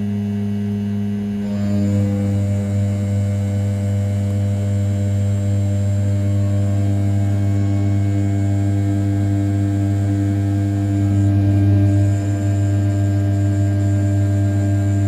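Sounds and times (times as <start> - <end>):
router spindle humming: 0.0 - 15.0.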